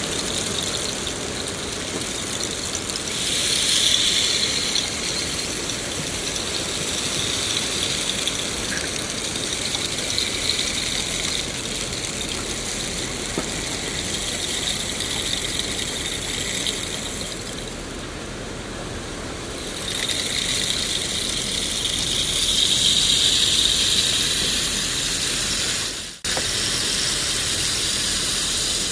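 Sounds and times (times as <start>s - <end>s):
steady rain hiss: 0.0s - 28.9s.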